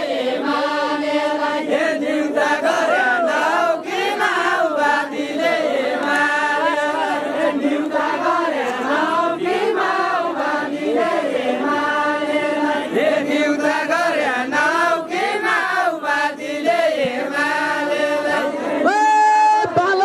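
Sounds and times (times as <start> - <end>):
men singing in unison: 0.0 - 19.0.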